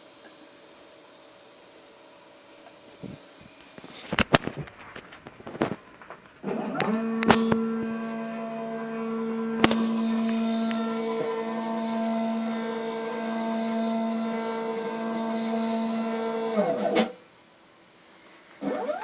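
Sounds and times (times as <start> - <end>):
machine motors whining: 2.6 - 19.0.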